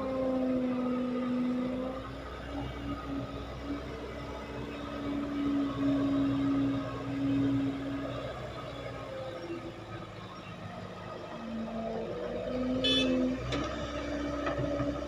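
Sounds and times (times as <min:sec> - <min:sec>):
diesel earthmoving machinery rumbling: 0:00.0 - 0:15.0.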